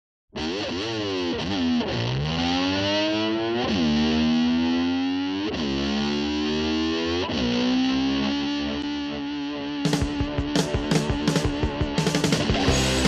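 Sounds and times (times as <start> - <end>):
distorted slide guitar: 0.3 - 13.0.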